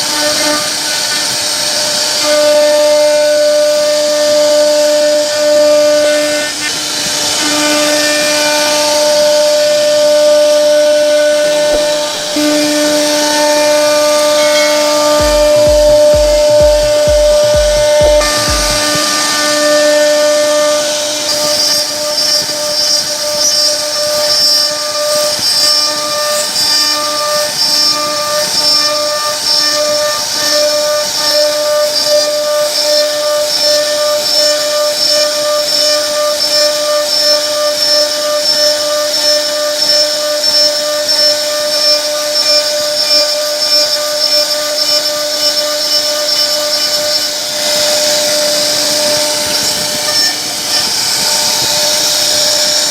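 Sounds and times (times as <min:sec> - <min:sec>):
cutting noise hiss: 0:00.0 - 0:52.9
router spindle high whine: 0:00.0 - 0:52.9.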